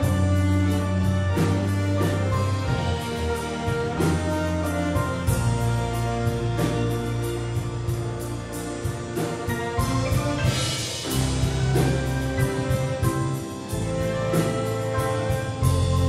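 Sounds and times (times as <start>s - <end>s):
low bass line: 0.0s - 16.0s
piano chords: 0.0s - 16.0s.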